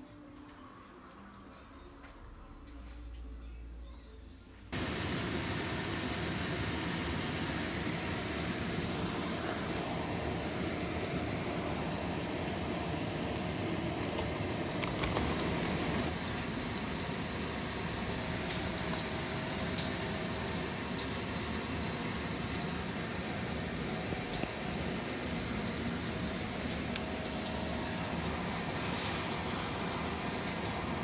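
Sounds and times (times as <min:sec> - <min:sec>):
food sizzling in hot fat: 0:04.8 - 0:31.0.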